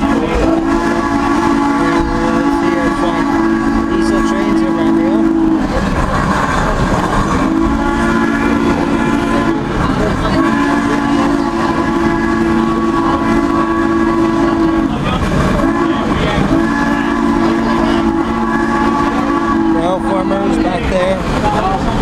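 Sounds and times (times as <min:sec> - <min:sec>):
train whistle blasts: 0:00.0 - 0:05.7, 0:07.3 - 0:09.8, 0:10.4 - 0:14.9, 0:15.6 - 0:20.6
train rumbling on rails: 0:00.0 - 0:22.0.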